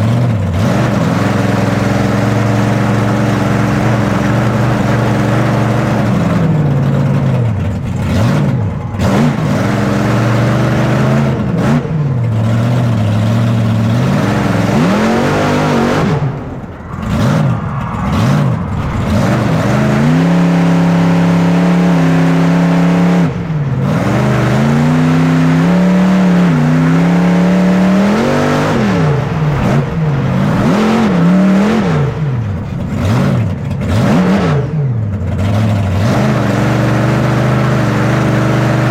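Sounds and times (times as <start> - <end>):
monster truck engine revving: 0.0 - 38.9.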